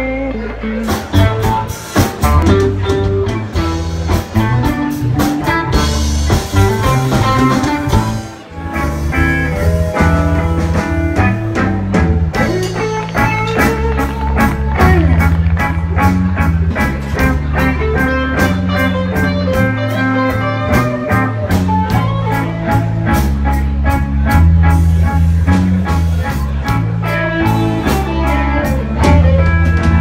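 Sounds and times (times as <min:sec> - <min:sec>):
drum kit: 0:00.0 - 0:30.0
electric bass: 0:00.0 - 0:30.0
electric guitars: 0:00.0 - 0:30.0.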